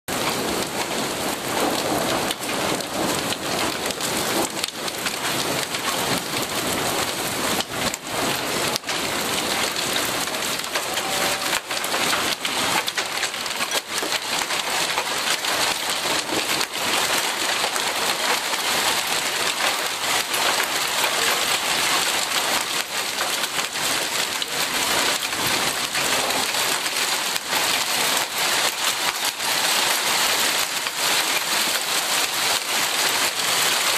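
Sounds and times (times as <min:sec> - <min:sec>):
hail pellets hitting wooden deck: 0:00.1 - 0:33.9
rain falling: 0:00.1 - 0:33.9.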